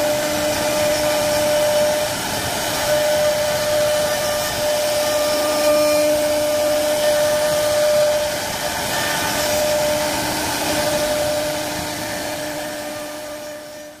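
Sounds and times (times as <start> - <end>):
cutter rushing in wood: 0.0 - 14.0
router spindle whine: 0.0 - 14.0.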